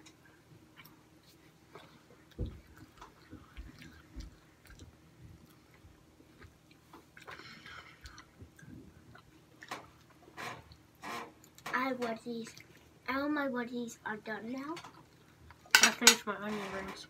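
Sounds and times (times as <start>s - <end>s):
people chewing food: 0.0s - 11.7s, 12.4s - 13.1s, 14.5s - 15.7s.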